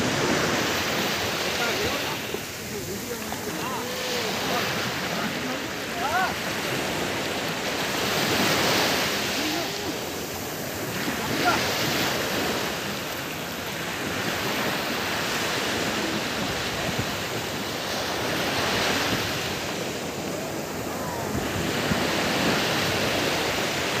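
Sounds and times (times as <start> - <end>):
sea surf rushing: 0.0 - 24.0
wind buffeting microphone: 0.0 - 24.0.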